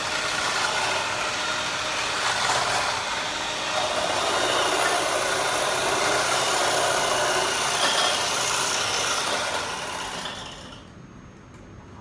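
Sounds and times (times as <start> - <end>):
electric hand mixer running: 0.0 - 10.7.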